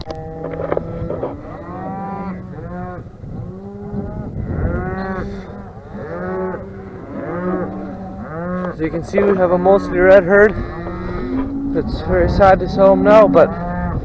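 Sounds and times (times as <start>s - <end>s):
cattle mooing: 0.0s - 14.0s.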